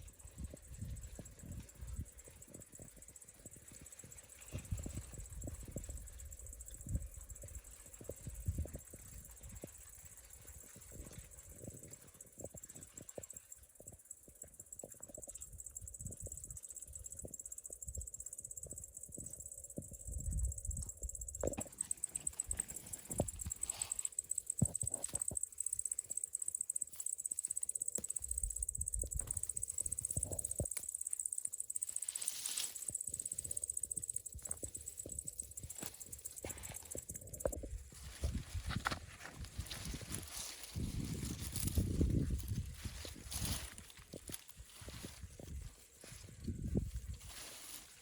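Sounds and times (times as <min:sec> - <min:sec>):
insects chirring: 0:00.0 - 0:48.0.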